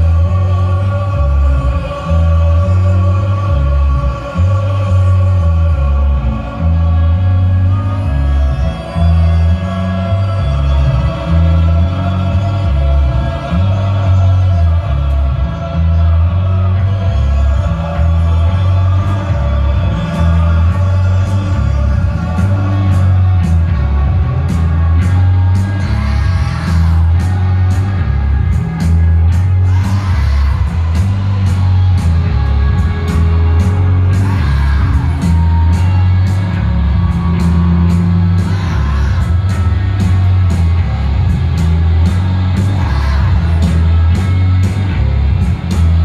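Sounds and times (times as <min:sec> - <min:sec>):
crowd singing along and cheering: 0:00.0 - 0:46.0
pulsing bass line: 0:00.0 - 0:46.0
live rock band playing: 0:07.2 - 0:46.0.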